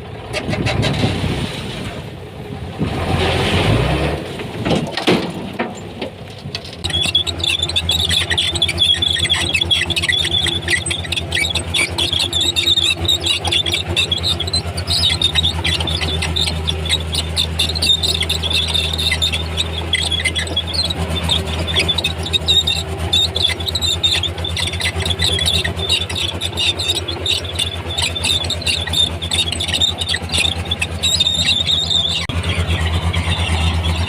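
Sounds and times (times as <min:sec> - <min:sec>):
bulldozer diesel engine droning: 0:00.0 - 0:34.0
steel tracks squealing: 0:06.7 - 0:34.0.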